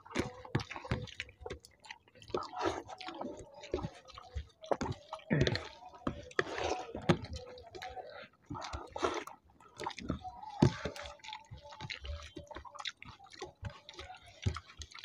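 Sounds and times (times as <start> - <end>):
fingers squishing food: 0.0 - 15.0
wet chewing and lip smacks: 0.0 - 15.0.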